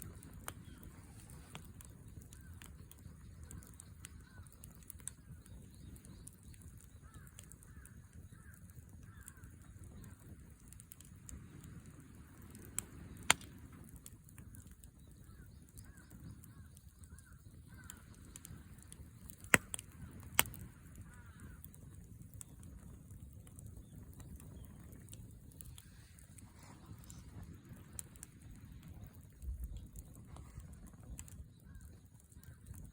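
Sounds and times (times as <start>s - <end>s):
faint chirping calls: 0.0s - 11.6s, 12.4s - 32.9s
burning wood popping: 0.0s - 32.9s
wood fire burning: 0.0s - 32.9s.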